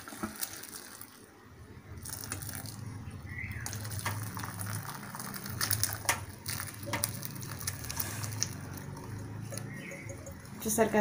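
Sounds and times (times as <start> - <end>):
soup pouring through strainer: 0.0 - 11.0.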